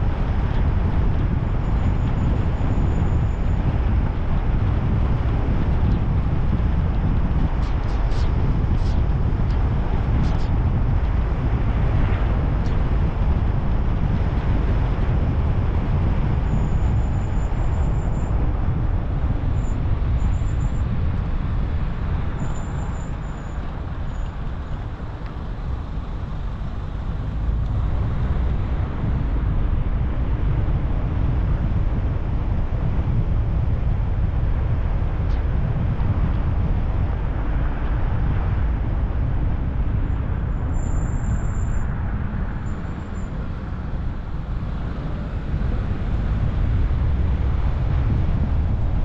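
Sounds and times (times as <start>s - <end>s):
car engine and tyres rumbling: 0.0s - 49.0s.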